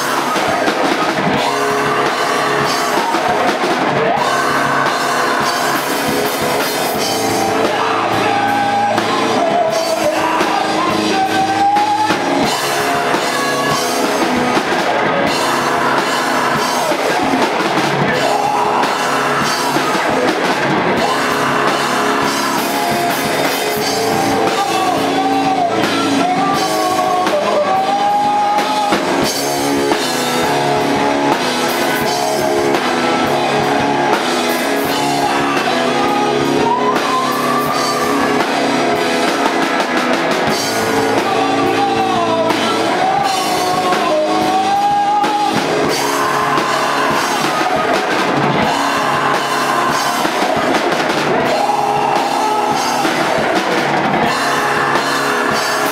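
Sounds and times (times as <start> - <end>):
drum kit: 0.0 - 55.9
electric guitar: 0.0 - 55.9
person singing: 0.0 - 55.9.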